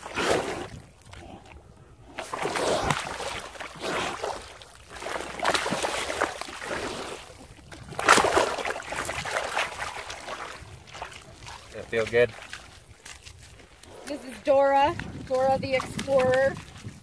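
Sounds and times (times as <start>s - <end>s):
pig splashing in mud: 0.0s - 17.0s.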